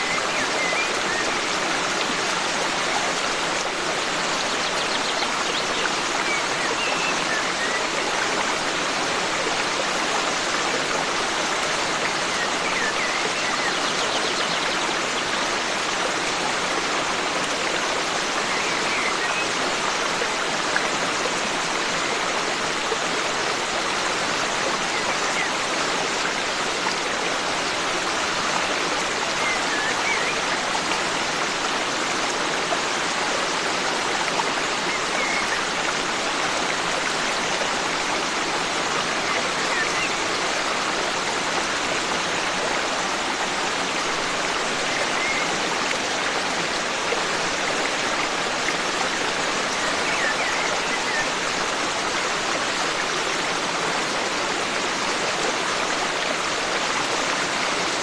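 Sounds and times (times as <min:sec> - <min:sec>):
forest stream running: 0:00.0 - 0:58.0.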